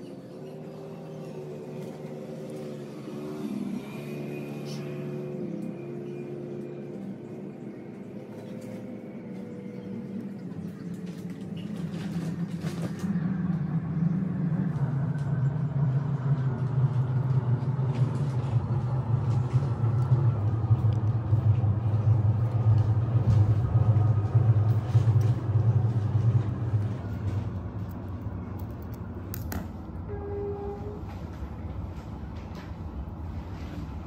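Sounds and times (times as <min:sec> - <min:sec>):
low mechanical rumble: 0:00.0 - 0:34.0.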